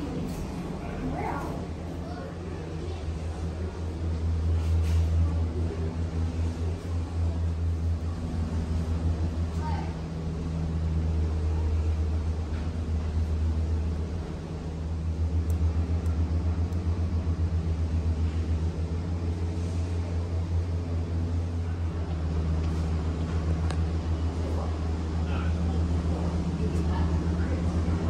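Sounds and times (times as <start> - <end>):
cable car gondola rumbling: 0.0 - 28.0.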